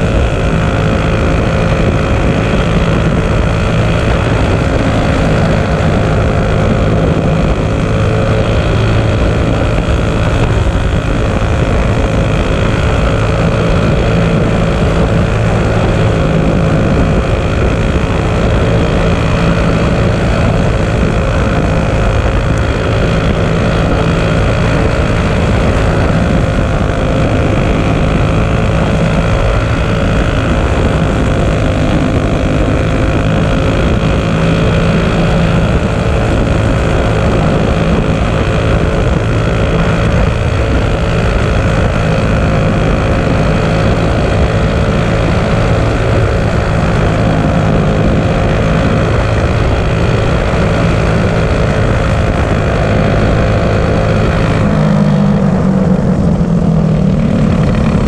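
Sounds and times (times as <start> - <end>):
kart engine at high revs: 0.0 - 58.0.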